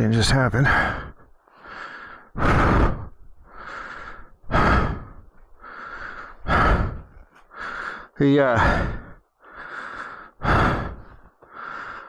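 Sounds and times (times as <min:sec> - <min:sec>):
person breathing hard: 0:00.6 - 0:12.0.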